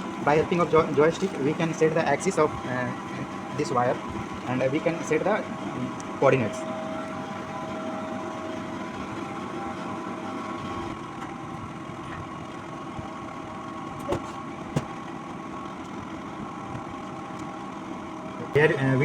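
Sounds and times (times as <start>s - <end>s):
faint steady tones: 0.0s - 19.0s
steady machine hum: 0.0s - 19.0s.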